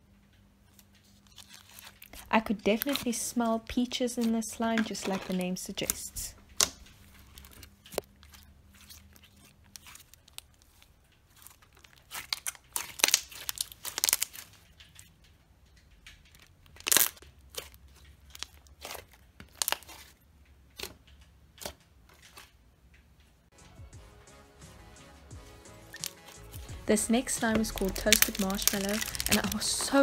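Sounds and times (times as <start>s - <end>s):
slime squelching and crackling: 0.7s - 23.3s, 25.8s - 30.0s.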